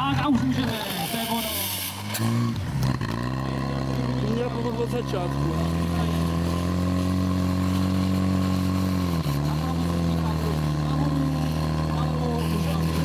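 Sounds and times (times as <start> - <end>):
pump engine running high revs: 0.0 - 13.0.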